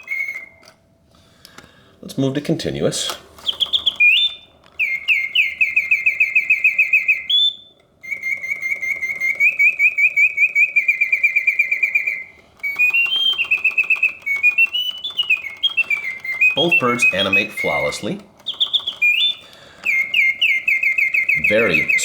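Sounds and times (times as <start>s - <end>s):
mechanical birdsong whistle: 0.0s - 22.0s.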